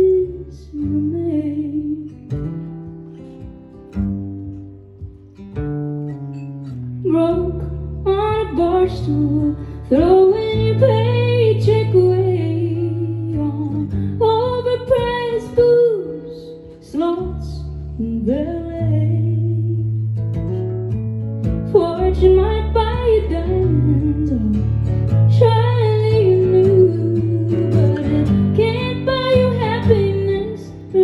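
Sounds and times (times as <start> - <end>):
woman singing: 0.0 - 2.8, 7.0 - 20.1, 21.7 - 31.0
acoustic guitar: 0.0 - 31.0.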